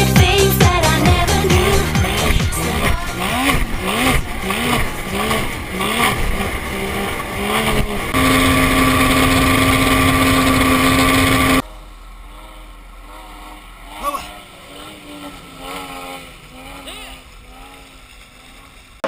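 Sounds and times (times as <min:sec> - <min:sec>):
outboard motor running at speed: 0:00.0 - 0:19.0.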